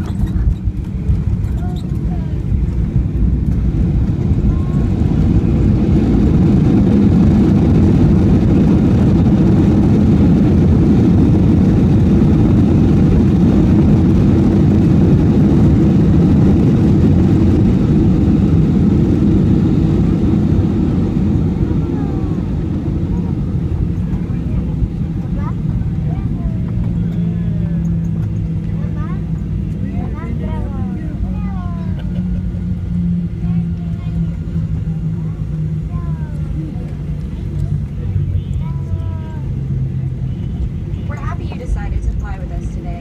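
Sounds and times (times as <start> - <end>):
airliner engines and wheels rumbling: 0.0 - 43.0.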